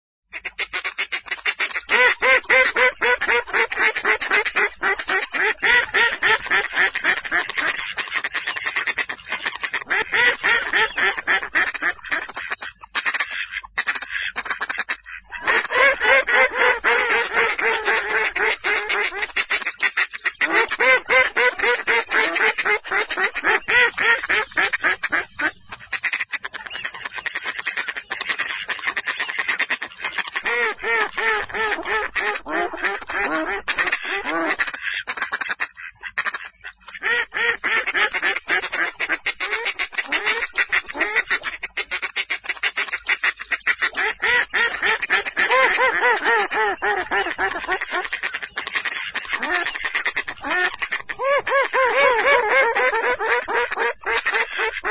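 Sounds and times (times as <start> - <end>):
ducks quacking: 0.3 - 54.9.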